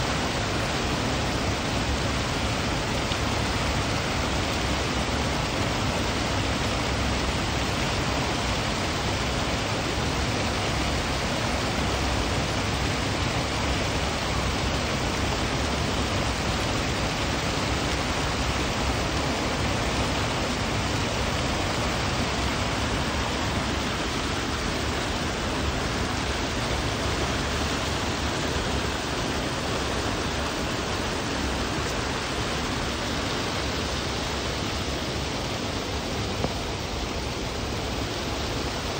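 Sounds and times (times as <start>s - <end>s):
water pouring over spillway: 0.0s - 38.9s.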